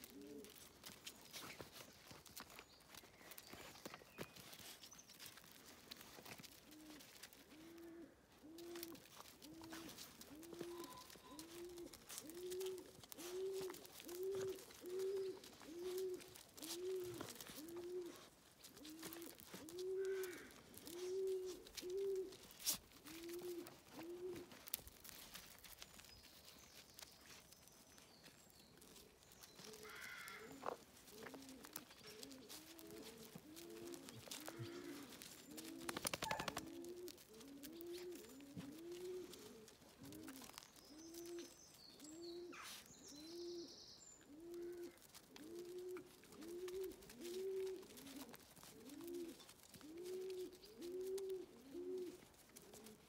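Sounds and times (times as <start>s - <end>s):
pigeon cooing: 0.0s - 1.5s, 6.3s - 25.2s, 28.9s - 53.0s.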